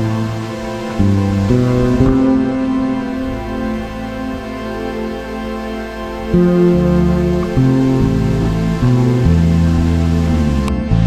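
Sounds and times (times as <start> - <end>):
held music chord: 0.0 - 11.0.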